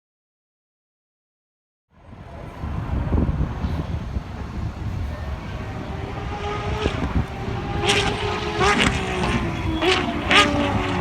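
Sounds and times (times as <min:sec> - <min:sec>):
racing car engine rumble: 0:02.0 - 0:11.0.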